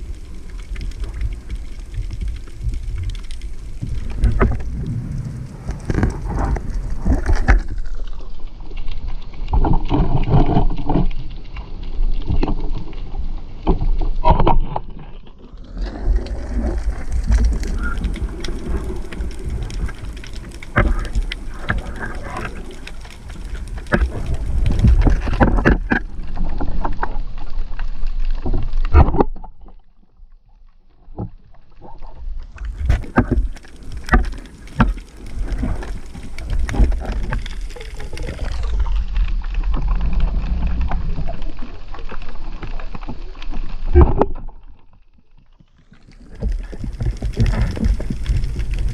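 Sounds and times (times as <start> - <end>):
water sloshing and bubbling: 0.0 - 48.9.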